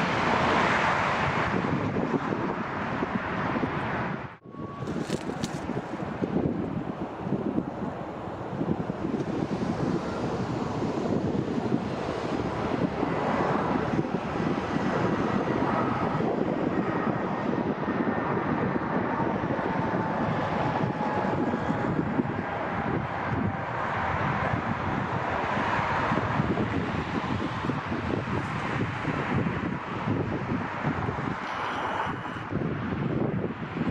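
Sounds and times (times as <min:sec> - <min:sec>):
jet engines passing: 0:00.0 - 0:33.9.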